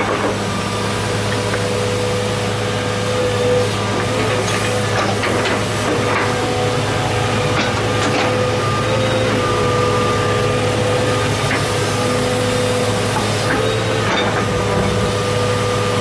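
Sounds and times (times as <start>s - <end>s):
engine whine: 0.0s - 16.0s
excavator diesel engine under load: 0.0s - 16.0s.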